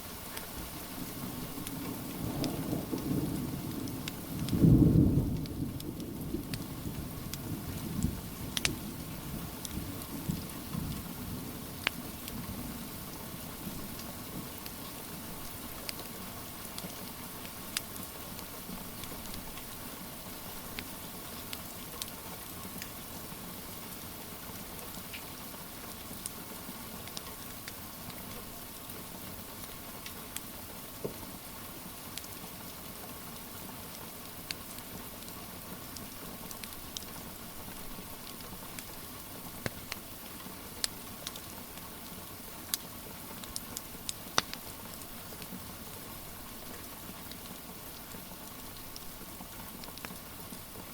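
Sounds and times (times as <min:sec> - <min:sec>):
rain patter: 0:00.0 - 0:50.9
wood fire crackling and popping: 0:00.2 - 0:04.8, 0:05.4 - 0:11.1, 0:11.7 - 0:23.0, 0:24.4 - 0:31.2, 0:33.9 - 0:50.9.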